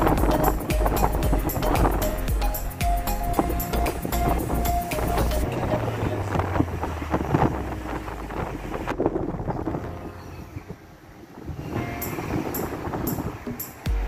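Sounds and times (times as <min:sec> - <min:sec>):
wind buffeting microphone: 0:00.0 - 0:13.9
road rumble: 0:00.0 - 0:14.0.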